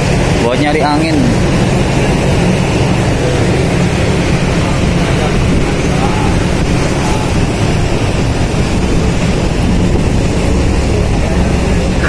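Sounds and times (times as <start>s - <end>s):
ship machinery rumble: 0.0s - 12.0s
wind buffeting microphone: 0.0s - 12.0s.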